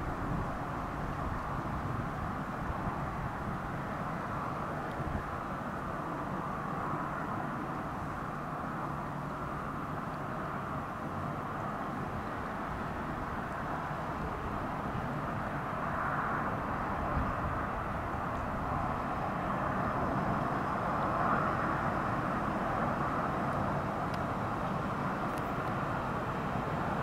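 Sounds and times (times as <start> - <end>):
electric locomotive whirring drone: 0.0 - 27.0.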